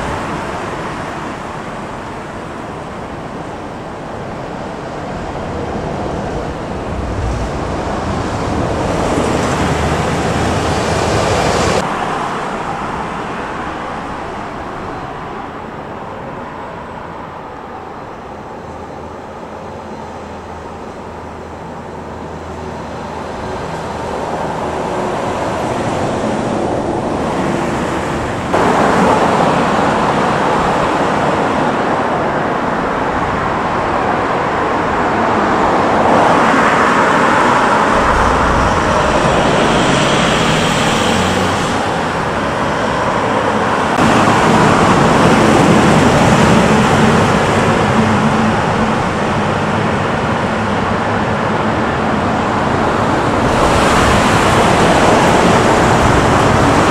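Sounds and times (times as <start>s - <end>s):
cars driving past: 0.0s - 17.4s, 20.3s - 56.9s.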